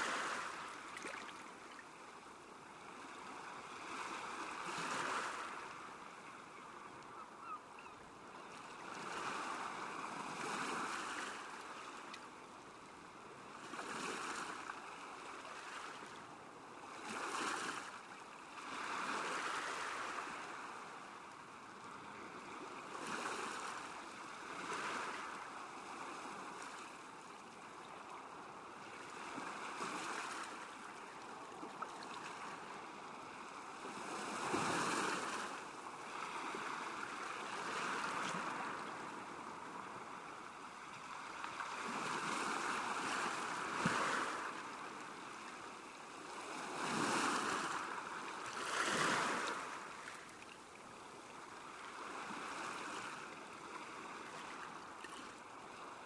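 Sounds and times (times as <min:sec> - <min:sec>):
small waves washing ashore: 0:00.0 - 0:56.0.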